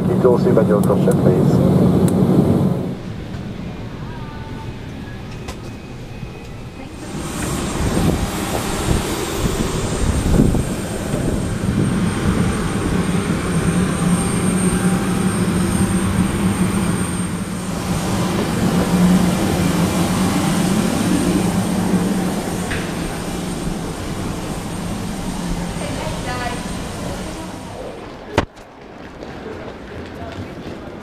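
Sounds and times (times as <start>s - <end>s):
high whine: 0.0s - 28.5s
jet engine drone: 0.0s - 28.6s.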